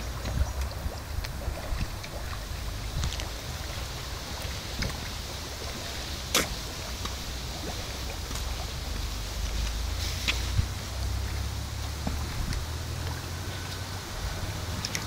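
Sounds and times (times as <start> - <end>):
water splashing onto pond: 0.0 - 15.0
wind rumble on microphone: 0.0 - 15.0.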